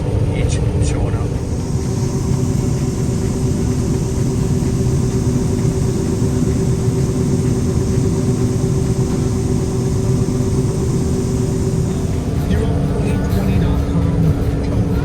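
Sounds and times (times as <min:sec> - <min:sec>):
combine harvester droning: 0:00.0 - 0:15.0.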